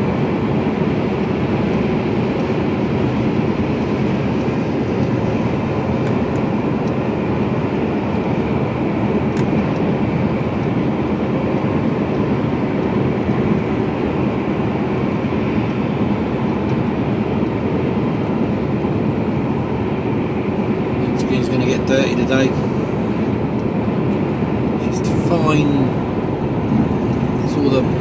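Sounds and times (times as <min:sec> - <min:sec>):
lorry cab drone: 0:00.0 - 0:28.0.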